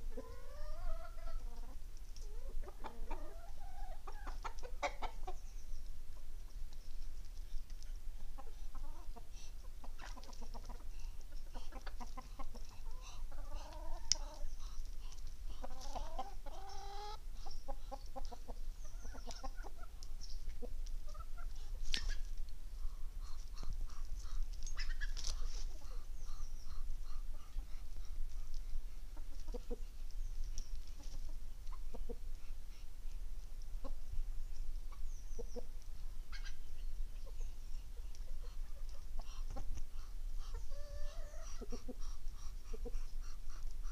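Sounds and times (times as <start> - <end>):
chickens clucking and calling: 0.0 - 43.9.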